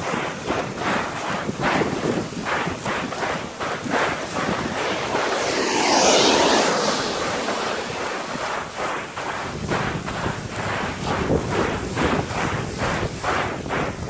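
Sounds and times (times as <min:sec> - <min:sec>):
sandboard sliding over gravel: 0:00.0 - 0:14.0
wind buffeting microphone: 0:00.0 - 0:14.0.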